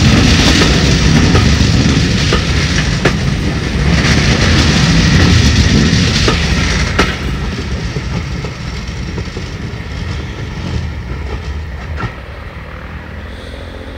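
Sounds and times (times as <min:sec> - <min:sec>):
train wheels clicking over rail joints: 0:00.0 - 0:12.7
diesel locomotive rumble: 0:00.0 - 0:13.9.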